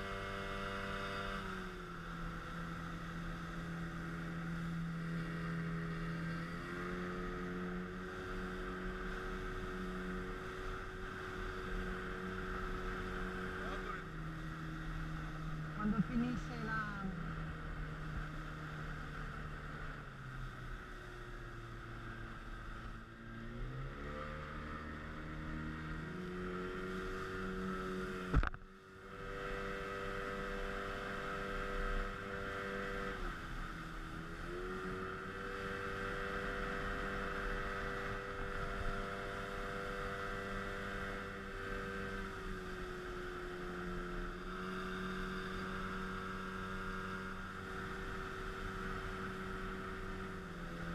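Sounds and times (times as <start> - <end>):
speedboat engine running: 0.0 - 50.9.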